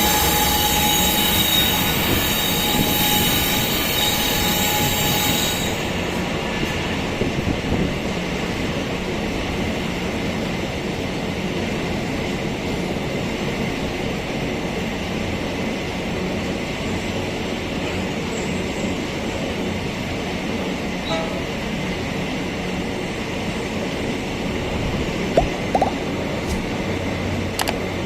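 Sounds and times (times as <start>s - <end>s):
train rolling on rails: 0.0s - 28.0s.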